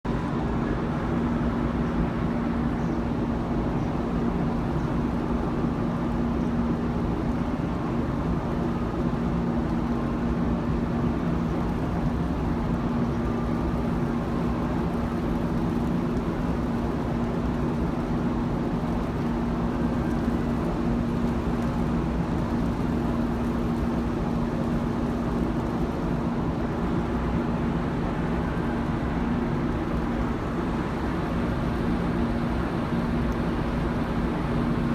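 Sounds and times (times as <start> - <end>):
low machinery hum: 0.1 - 34.9
machinery rumble: 6.8 - 34.9.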